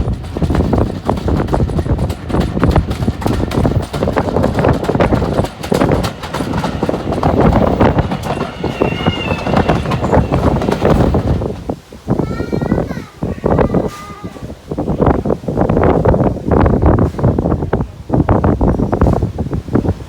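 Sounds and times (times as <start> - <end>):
train clattering: 0.0 - 20.0.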